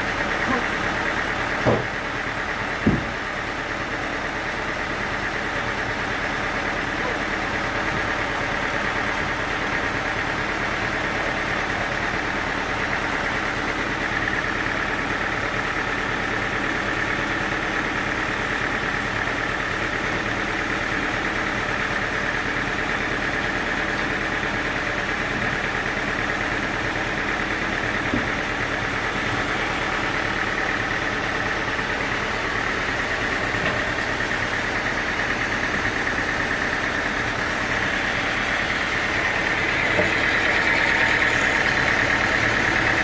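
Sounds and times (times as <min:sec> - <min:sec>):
sawmill machinery drone: 0:00.0 - 0:43.0.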